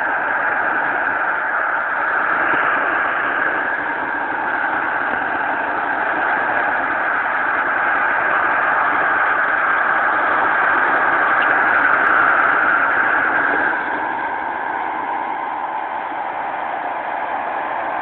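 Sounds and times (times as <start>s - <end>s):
radio static: 0.0s - 15.6s.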